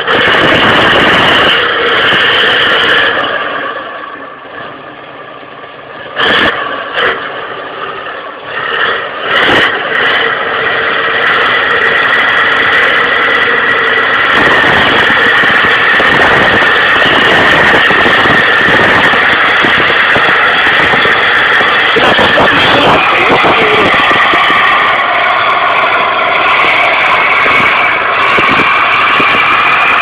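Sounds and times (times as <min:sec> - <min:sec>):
high whine: 0:00.0 - 0:30.0
tractor engine running hard: 0:00.0 - 0:30.0.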